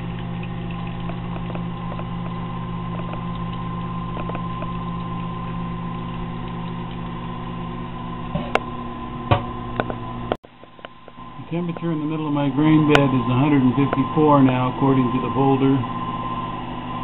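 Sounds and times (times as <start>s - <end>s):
liquid flowing slowly: 0.0s - 17.0s
pump humming: 0.0s - 17.0s.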